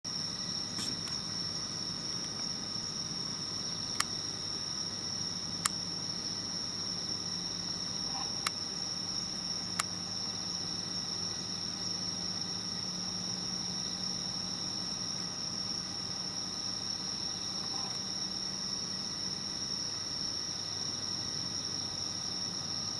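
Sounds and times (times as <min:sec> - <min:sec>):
night insects chirping: 0:00.1 - 0:22.9.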